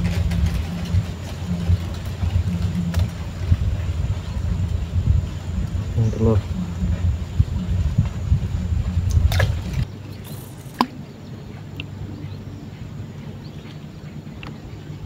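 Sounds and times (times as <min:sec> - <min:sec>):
low rumbling on microphone: 0:00.0 - 0:15.0
steady low boat hum: 0:00.0 - 0:15.0.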